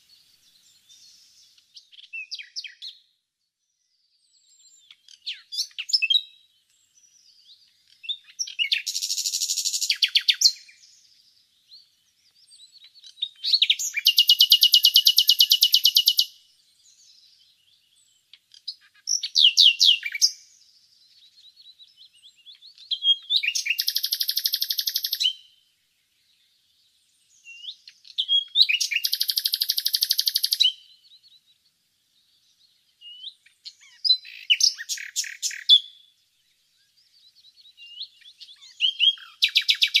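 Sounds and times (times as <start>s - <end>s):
nightingale singing: 0.0s - 40.0s.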